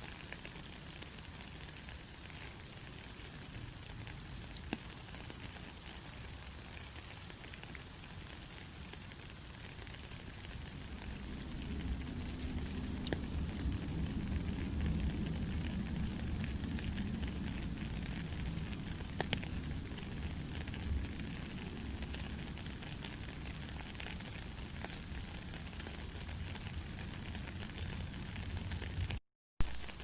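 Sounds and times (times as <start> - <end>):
faint crackles: 0.0 - 30.0.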